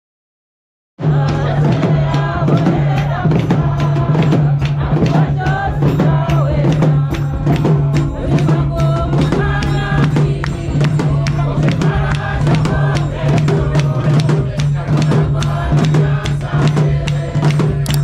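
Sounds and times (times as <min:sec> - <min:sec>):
drums and tambourines: 0:01.0 - 0:18.0
group singing a hymn: 0:01.0 - 0:18.0.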